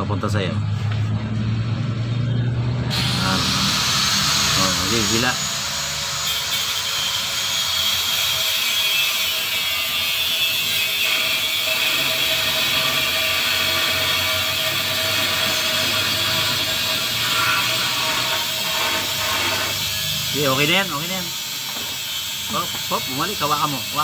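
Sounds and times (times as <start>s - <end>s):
motor humming with high whine: 2.9s - 24.0s.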